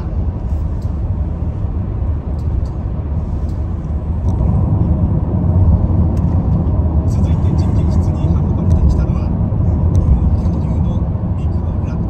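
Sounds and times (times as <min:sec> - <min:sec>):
car road rumble inside cabin: 0:00.0 - 0:12.0.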